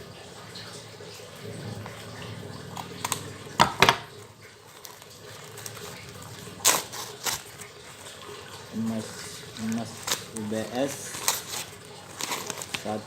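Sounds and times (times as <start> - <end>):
wrapping crackling: 1.6 - 13.0.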